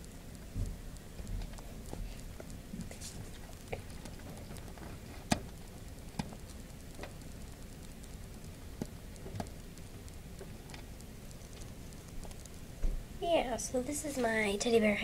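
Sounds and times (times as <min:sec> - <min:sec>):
hamster nibbling clicks: 0:00.0 - 0:12.8.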